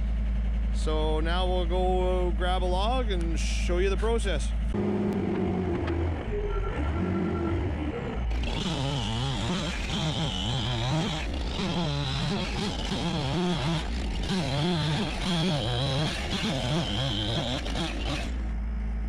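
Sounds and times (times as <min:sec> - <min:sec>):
steady high whine: 0:00.0 - 0:19.0
engine revving: 0:00.8 - 0:19.0.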